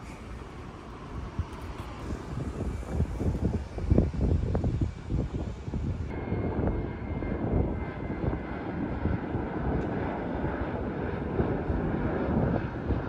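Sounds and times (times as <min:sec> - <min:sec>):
jet engines rumbling overhead: 0:00.0 - 0:13.0.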